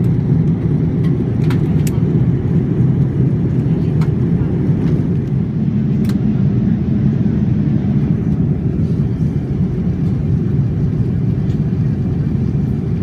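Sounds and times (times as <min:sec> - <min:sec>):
airplane engines rumbling in cabin: 0:00.0 - 0:13.0.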